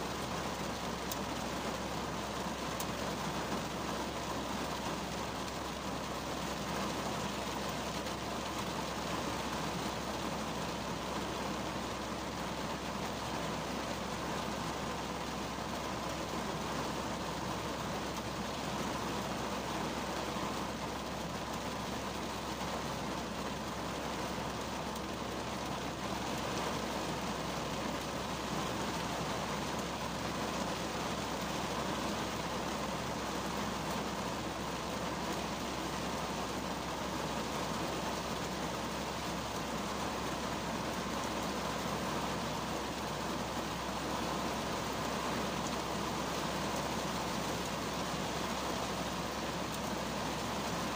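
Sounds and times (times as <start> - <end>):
heavy rain on car: 0.0 - 50.9.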